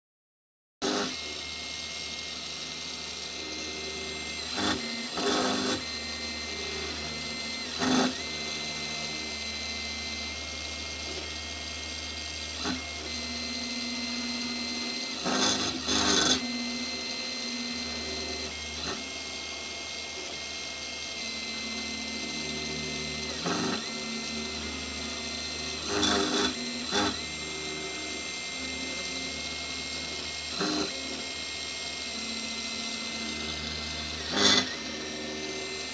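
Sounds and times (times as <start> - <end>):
cutter cutting bursts: 0.8 - 35.9
milling machine whine: 0.8 - 35.9.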